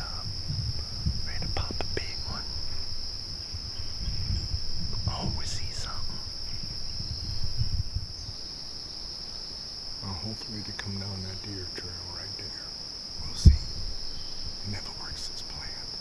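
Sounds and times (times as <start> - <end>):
insects trilling: 0.0 - 16.0
low rumbling microphone noise: 0.0 - 16.0.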